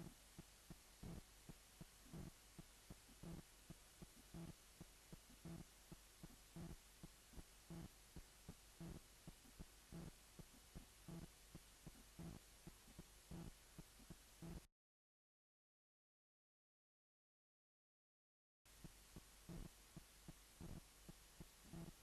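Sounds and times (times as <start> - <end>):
heartbeat throbbing: 0.0 - 14.7, 18.8 - 22.0.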